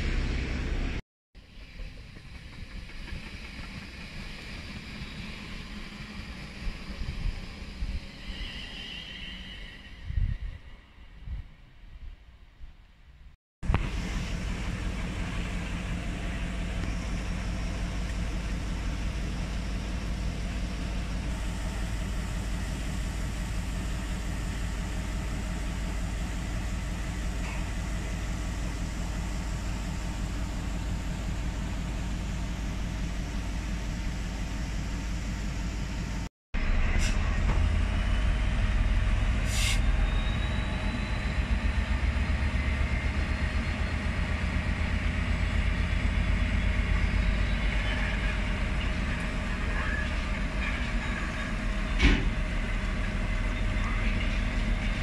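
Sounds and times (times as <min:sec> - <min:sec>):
diesel locomotive engine rumble: 0:00.0 - 0:12.7, 0:13.6 - 0:55.0.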